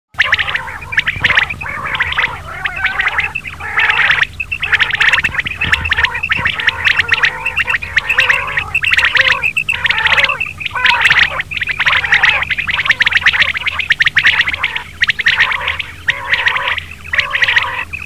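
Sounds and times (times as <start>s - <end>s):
quail calling: 0.2s - 18.0s.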